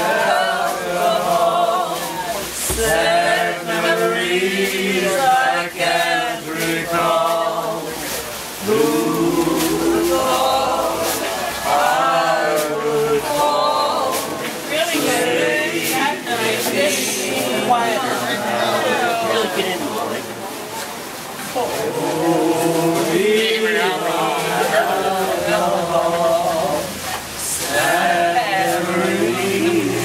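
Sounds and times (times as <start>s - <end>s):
acoustic guitars strummed: 0.0s - 30.0s
voices singing in unison: 0.0s - 30.0s.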